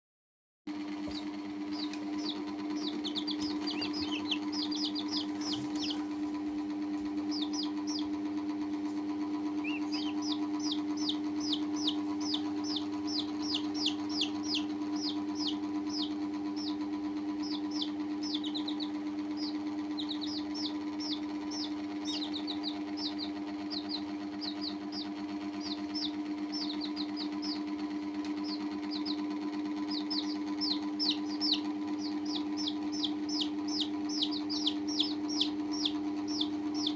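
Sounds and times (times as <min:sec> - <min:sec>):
low mechanical hum: 0:00.7 - 0:36.9
baby chicks peeping: 0:00.8 - 0:36.9.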